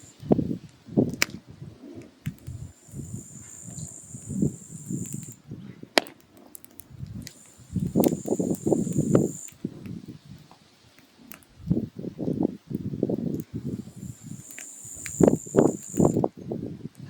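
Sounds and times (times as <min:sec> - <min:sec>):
firewood crackling and popping: 0:00.0 - 0:17.0
flames fluttering: 0:00.0 - 0:17.0.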